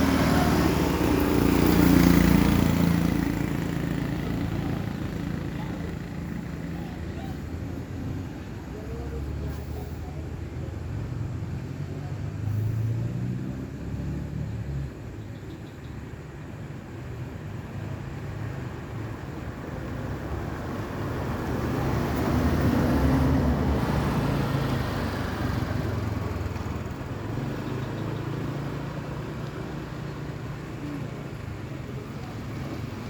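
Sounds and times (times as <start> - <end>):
vehicle passing: 0.0 - 15.1, 18.0 - 33.0.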